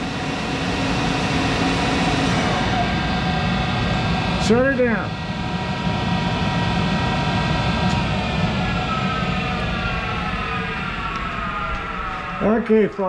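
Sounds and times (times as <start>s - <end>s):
motor winding down whine: 0.0s - 13.0s
steady low hum: 0.0s - 13.0s.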